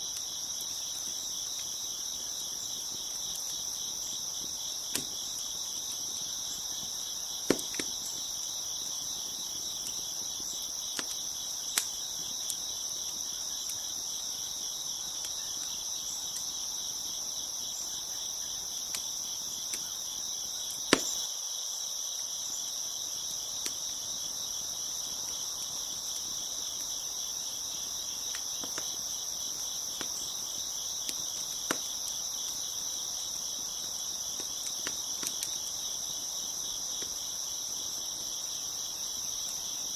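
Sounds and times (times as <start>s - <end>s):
wood fire popping and crackling: 0.0s - 17.3s, 20.6s - 21.3s, 23.1s - 39.8s
crickets chirping: 0.0s - 39.9s.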